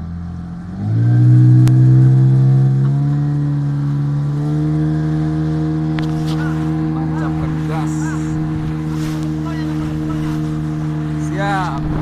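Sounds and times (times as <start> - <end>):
boat engine running loud: 0.0 - 12.0.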